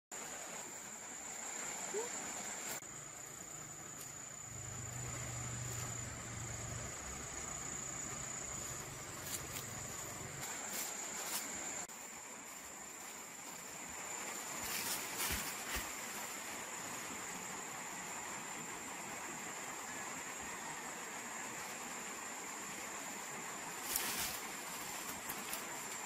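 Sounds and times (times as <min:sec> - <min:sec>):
insects droning: 0:00.1 - 0:26.0.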